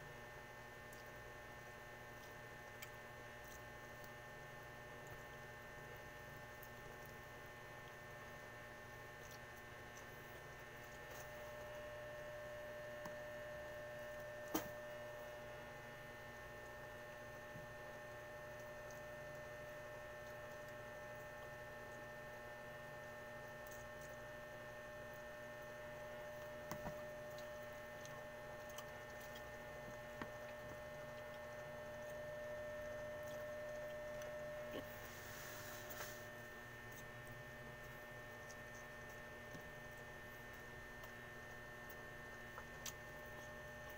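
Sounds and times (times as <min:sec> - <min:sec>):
steady electrical hum: 0:00.0 - 0:43.9.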